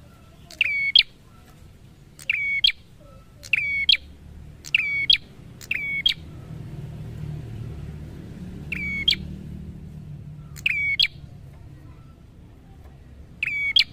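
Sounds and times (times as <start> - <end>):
bird calling: 0.0 - 6.6, 8.6 - 13.9.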